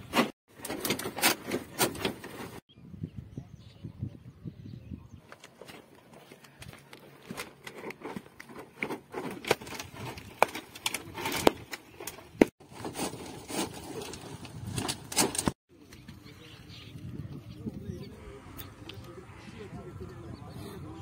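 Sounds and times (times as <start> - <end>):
open-air ambience: 0.0 - 21.0.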